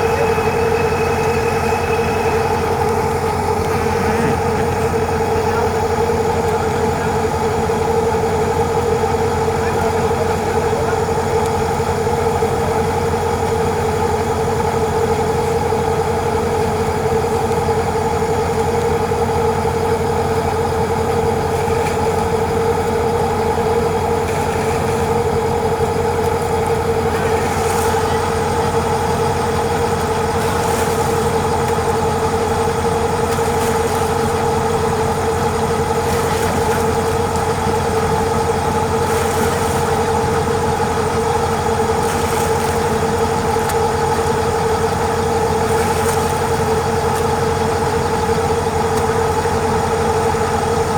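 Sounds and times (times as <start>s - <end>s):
machine engine running steadily: 0.0s - 50.9s.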